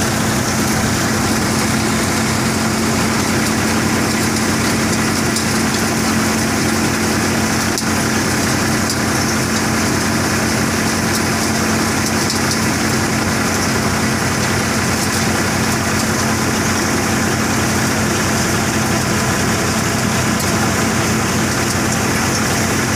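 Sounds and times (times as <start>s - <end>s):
threshing machine droning: 0.0s - 22.9s.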